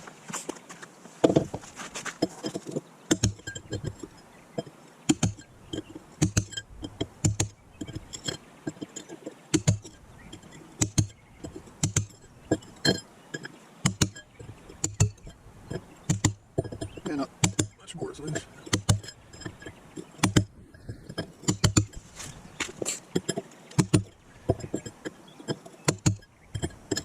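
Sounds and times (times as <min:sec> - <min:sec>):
hammer striking steel chisel: 0:03.1 - 0:22.0, 0:22.6 - 0:27.0.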